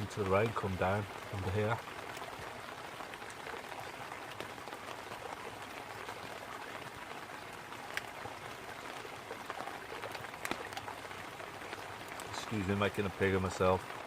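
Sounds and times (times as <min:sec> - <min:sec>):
babbling brook: 0:00.0 - 0:14.0
rain pattering on a tarp: 0:00.0 - 0:14.0.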